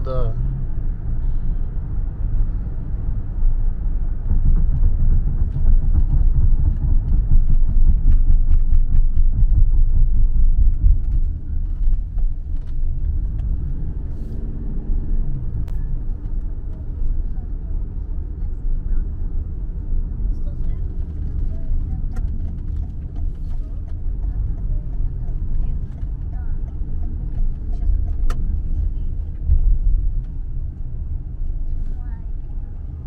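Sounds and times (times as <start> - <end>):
taxi road and engine rumble: 0.0 - 33.0.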